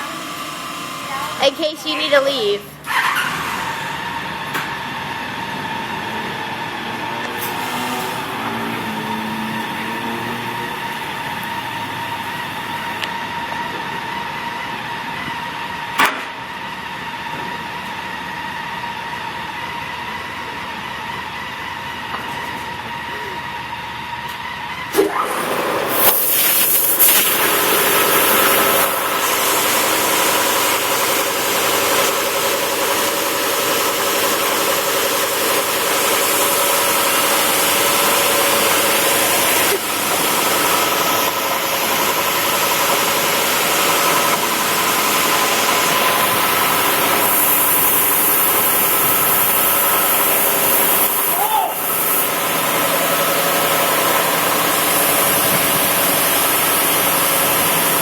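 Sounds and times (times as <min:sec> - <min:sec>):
car wash machinery hiss and whir: 0:00.0 - 0:58.0.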